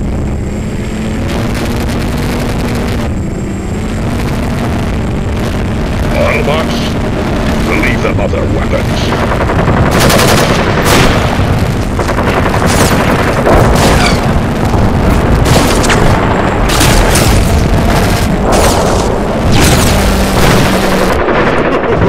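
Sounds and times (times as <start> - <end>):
drone motors whining: 0.0 - 21.5.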